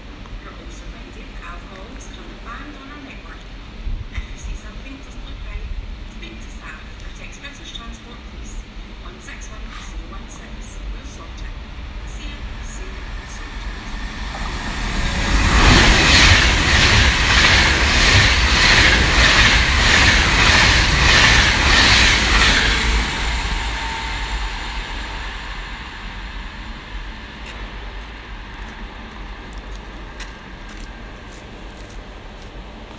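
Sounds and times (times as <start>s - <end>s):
train passing at speed: 0.0s - 32.9s.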